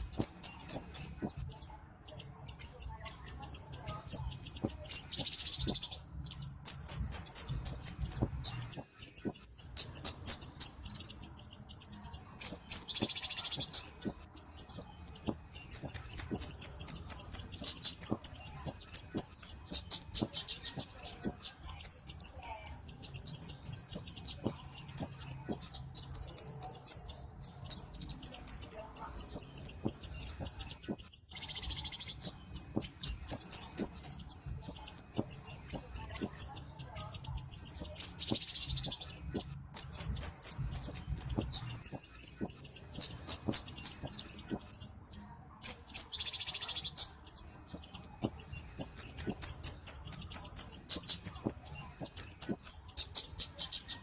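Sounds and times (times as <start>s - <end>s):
bird singing rapid high chips: 0.0s - 54.0s.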